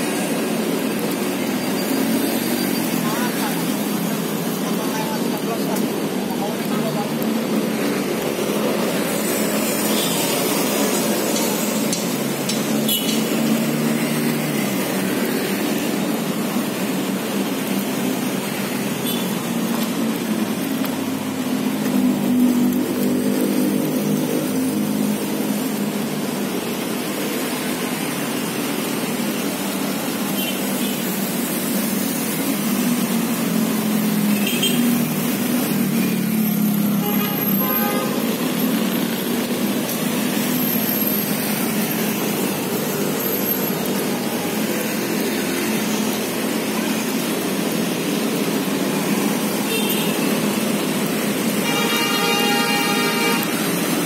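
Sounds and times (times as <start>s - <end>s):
motor scooters passing: 0.0s - 54.0s
roar of tyres and traffic: 0.0s - 54.0s.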